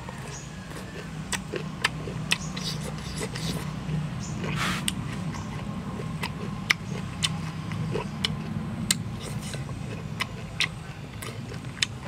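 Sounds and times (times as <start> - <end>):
chewing smacks: 0.1 - 12.0.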